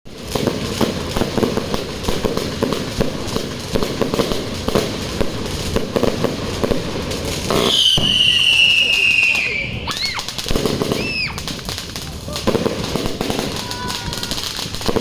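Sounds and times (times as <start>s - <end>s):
firework cake shots: 0.1s - 15.0s.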